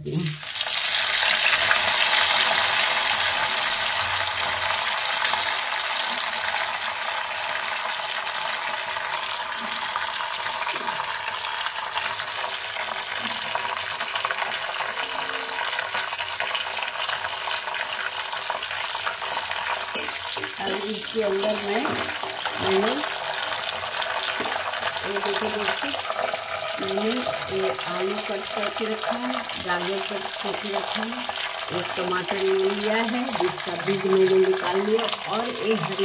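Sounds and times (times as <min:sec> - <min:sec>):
leaves sizzling in hot oil: 0:00.0 - 0:36.0.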